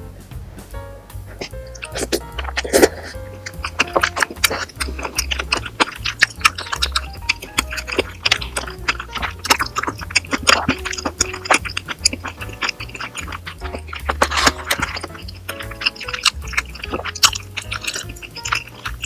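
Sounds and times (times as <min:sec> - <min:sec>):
background music with pulsing bass: 0:00.0 - 0:19.0.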